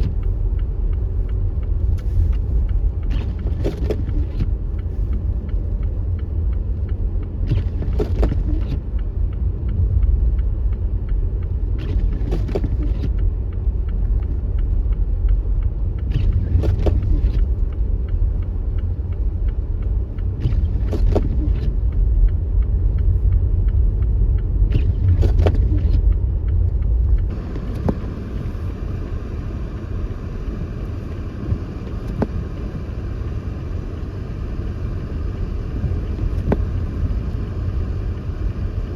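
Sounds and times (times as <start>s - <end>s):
road and engine rumble: 0.0s - 38.9s
windshield wiper swish: 0.0s - 38.9s.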